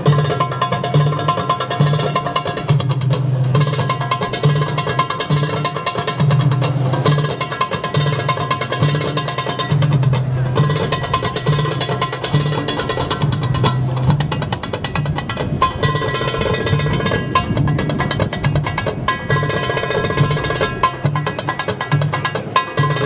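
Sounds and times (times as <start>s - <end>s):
fast hand-drum percussion: 0.0s - 23.0s.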